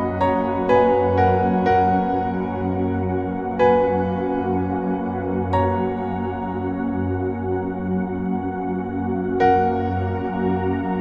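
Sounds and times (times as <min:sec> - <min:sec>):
ambient music with sustained tones: 0:00.0 - 0:11.0.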